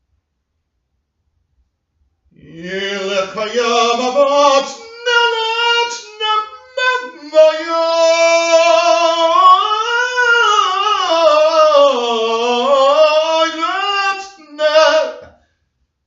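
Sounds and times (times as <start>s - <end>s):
person singing unaccompanied: 2.4s - 15.3s.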